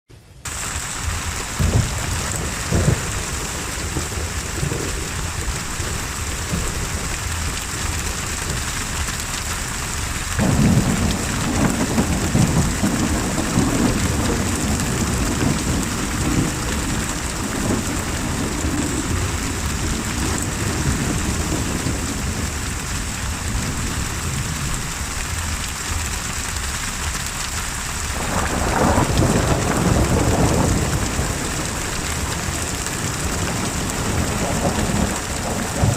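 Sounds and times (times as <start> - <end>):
heavy rain: 0.1 - 35.9
thunder rolling: 0.5 - 9.2, 10.3 - 25.7, 28.1 - 35.9.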